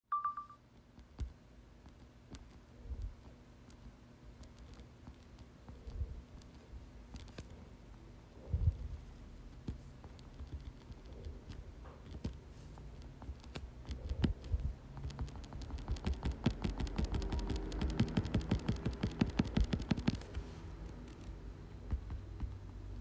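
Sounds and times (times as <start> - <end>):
low steady hum: 0.1 - 23.0
faint clicks and taps: 0.7 - 8.0, 8.7 - 23.0.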